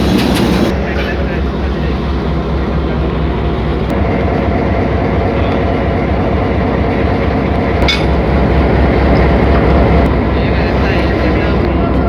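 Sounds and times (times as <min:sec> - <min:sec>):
train rail noise: 0:00.0 - 0:12.0.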